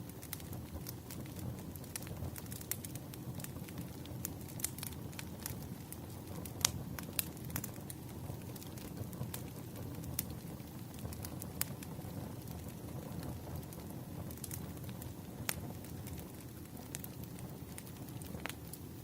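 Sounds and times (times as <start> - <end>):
fire rumbling: 0.0 - 19.0
firewood crackling and popping: 0.0 - 19.0.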